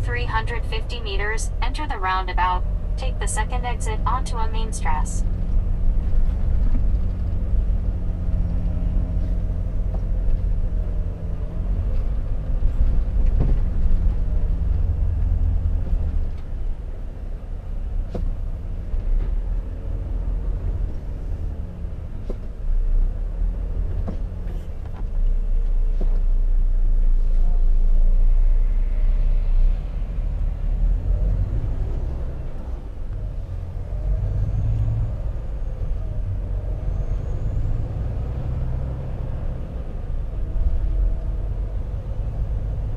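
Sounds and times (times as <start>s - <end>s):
truck engine rumble: 0.0s - 42.9s.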